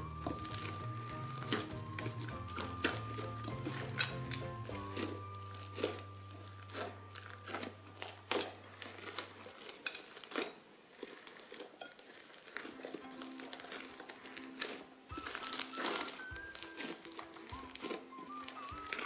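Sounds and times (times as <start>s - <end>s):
slime crackling and popping: 0.0s - 19.0s.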